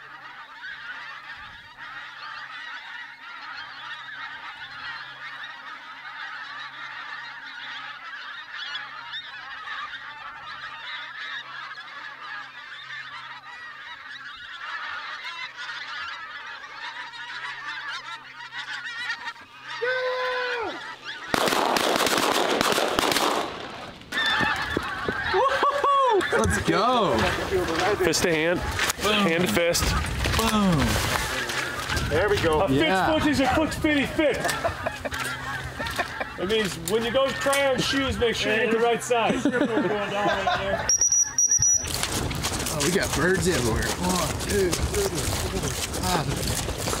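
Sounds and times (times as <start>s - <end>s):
falling goose call: 0.0s - 39.0s
geese honking: 0.0s - 47.0s.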